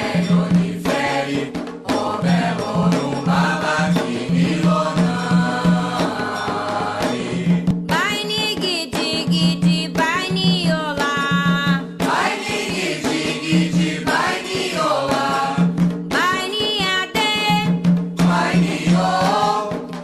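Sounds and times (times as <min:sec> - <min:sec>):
rapid hand drum strokes: 0:00.0 - 0:20.0.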